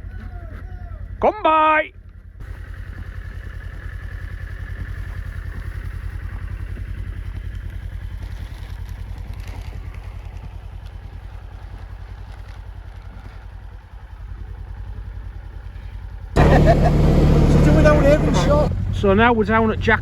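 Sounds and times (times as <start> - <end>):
buggy engine running: 2.1 - 20.0.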